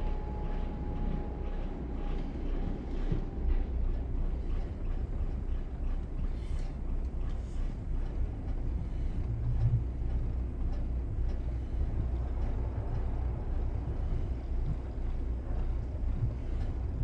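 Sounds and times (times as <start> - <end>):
boat diesel engines rumbling: 0.0 - 17.0.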